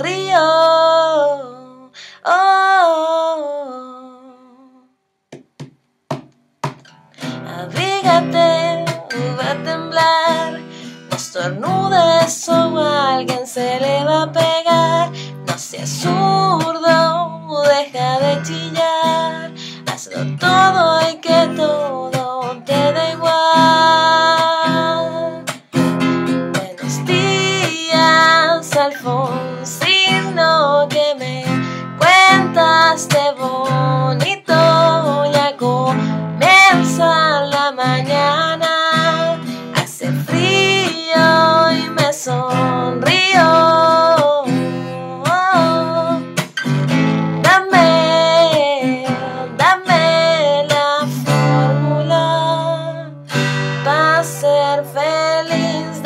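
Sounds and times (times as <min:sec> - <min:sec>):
woman singing: 0:00.0 - 0:05.0, 0:07.2 - 0:56.0
acoustic guitar strumming: 0:05.6 - 0:56.0.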